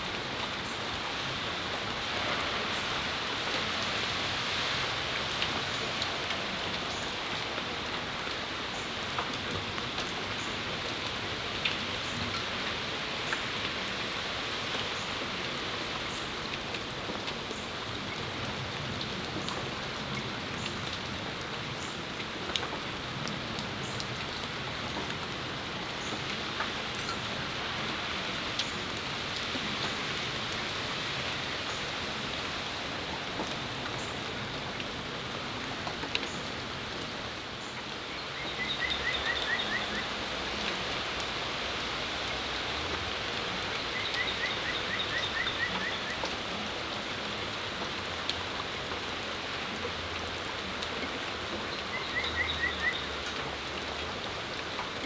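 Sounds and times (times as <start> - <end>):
rain falling on a patio: 0.0 - 55.0.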